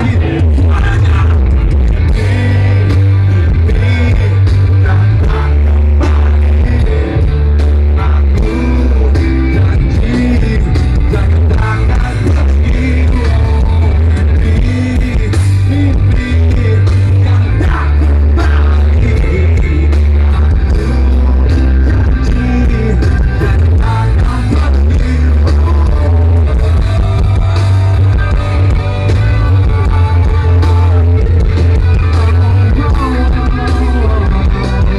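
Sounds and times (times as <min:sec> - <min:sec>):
live rock band playing: 0:00.0 - 0:34.9
person singing: 0:00.0 - 0:34.9.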